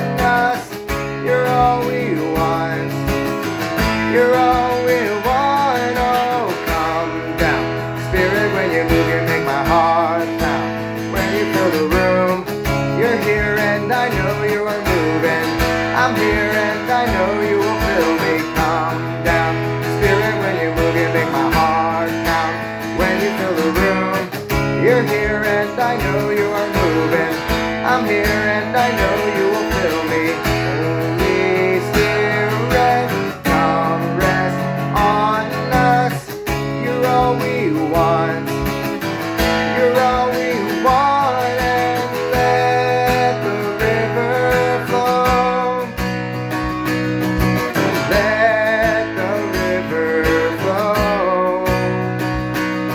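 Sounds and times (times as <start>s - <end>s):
strummed acoustic guitar: 0.0s - 52.9s.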